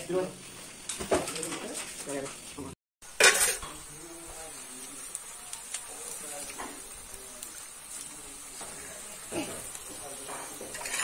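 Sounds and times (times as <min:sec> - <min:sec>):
meat sizzling in a wok: 0:00.0 - 0:11.0
faint crackles: 0:00.2 - 0:11.0.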